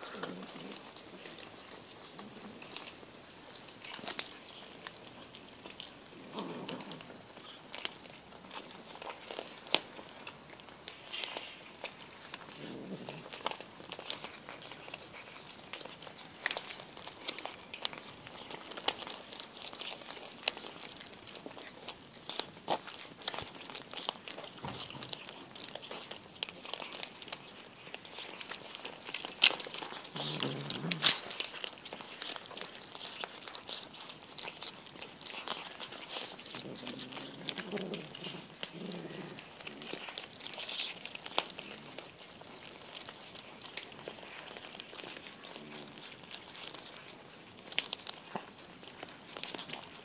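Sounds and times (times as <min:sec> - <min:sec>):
cats crunching fish bones: 0:00.0 - 0:50.0.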